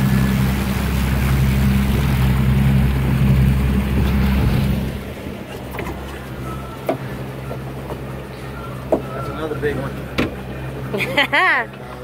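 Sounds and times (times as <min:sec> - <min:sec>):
boat wake rushing and splashing: 0:00.0 - 0:12.0
outboard motor humming: 0:00.0 - 0:12.0.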